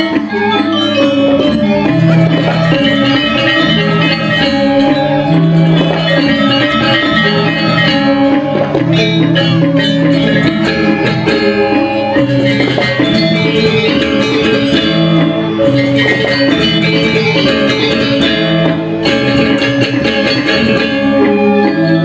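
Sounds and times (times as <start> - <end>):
gamelan ensemble playing: 0.0 - 22.0.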